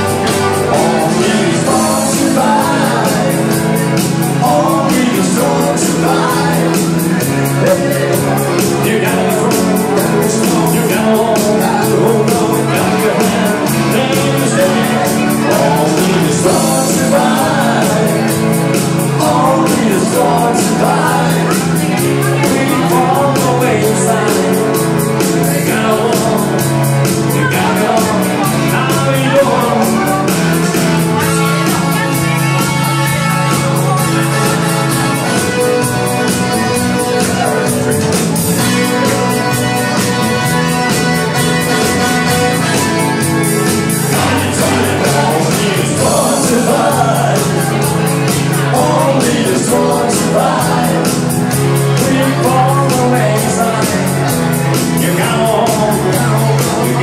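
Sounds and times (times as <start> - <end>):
live pop-rock music: 0.0 - 57.0
man singing into microphone: 0.0 - 57.0.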